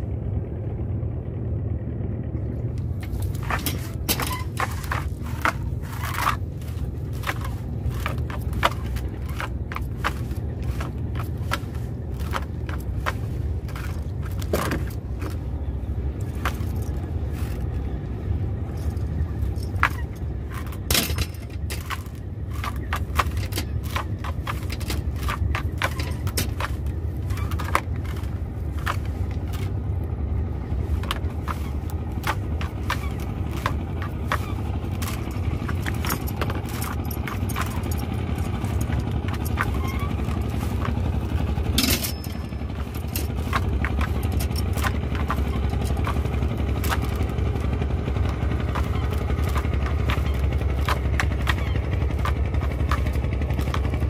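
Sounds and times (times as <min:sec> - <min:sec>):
boat engine idling: 0:00.0 - 0:54.0
gear scraping and knocking: 0:02.2 - 0:54.0.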